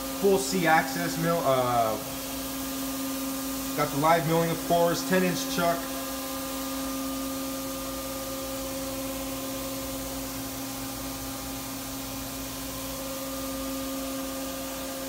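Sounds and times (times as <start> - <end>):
machine electrical hum: 0.0 - 15.0.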